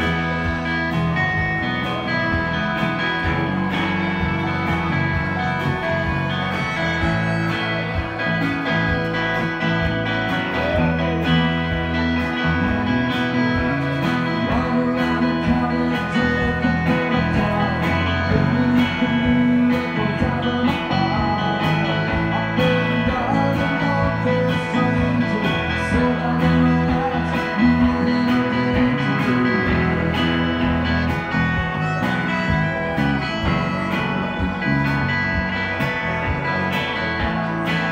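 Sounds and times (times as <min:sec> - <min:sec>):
country-rock band playing: 0:00.0 - 0:37.9
fiddle: 0:00.0 - 0:37.9
steady drum beat: 0:00.0 - 0:37.9.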